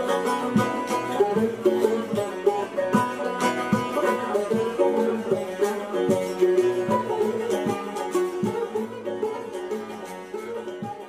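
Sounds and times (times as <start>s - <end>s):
plucked lutes playing fast melody: 0.0s - 11.0s.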